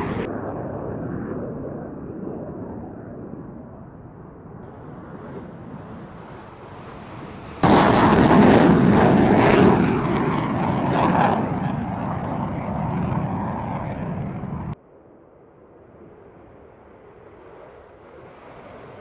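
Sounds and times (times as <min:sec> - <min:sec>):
jet engines during takeoff: 0:00.0 - 0:19.0.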